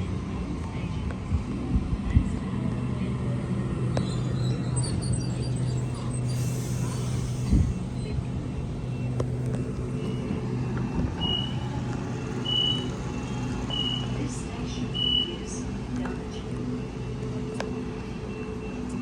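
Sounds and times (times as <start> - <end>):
idling engine hum: 0.2 - 18.3.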